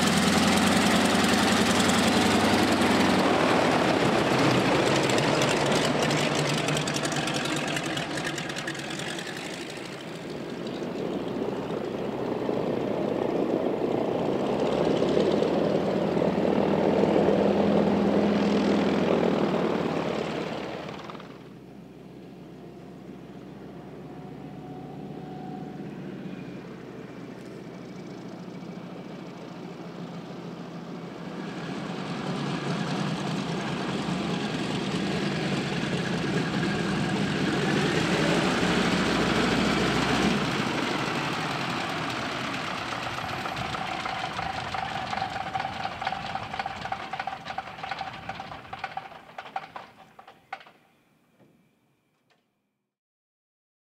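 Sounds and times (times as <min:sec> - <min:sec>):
propeller plane engine: 0:00.0 - 0:50.8.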